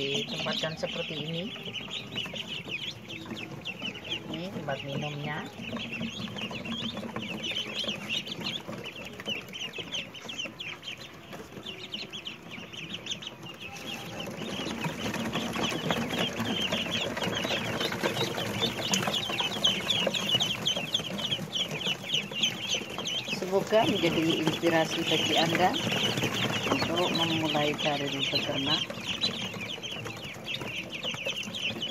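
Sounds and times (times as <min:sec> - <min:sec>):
chicks peeping: 0:00.0 - 0:31.9.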